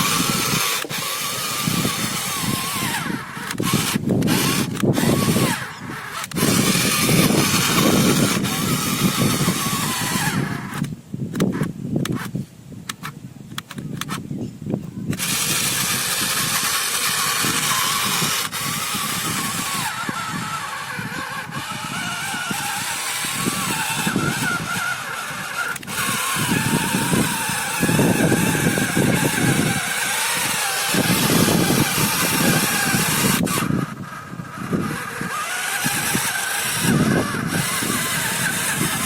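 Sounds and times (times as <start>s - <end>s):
tractor engine running: 0.0s - 12.3s, 15.1s - 39.0s.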